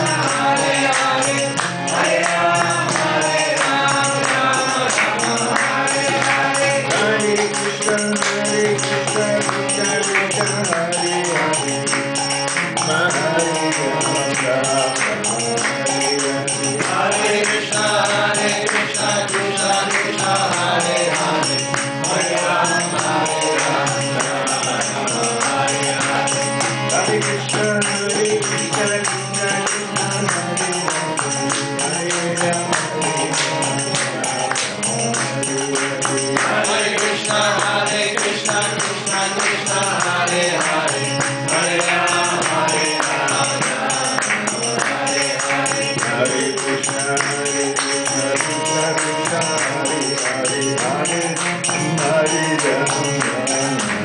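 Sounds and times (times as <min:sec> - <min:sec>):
harmonium reed tones: 0:00.0 - 0:54.0
man singing: 0:00.0 - 0:54.0.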